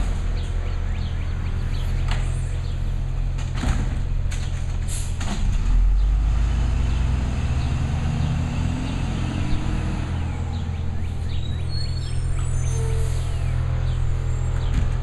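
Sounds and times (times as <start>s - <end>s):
garbage truck engine rumble: 0.0s - 15.0s.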